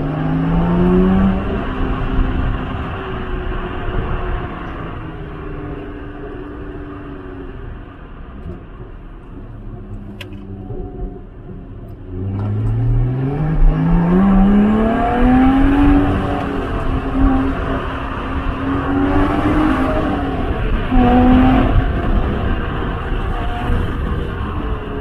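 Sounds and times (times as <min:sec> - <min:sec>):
sports car engine accelerating: 0:00.0 - 0:25.0.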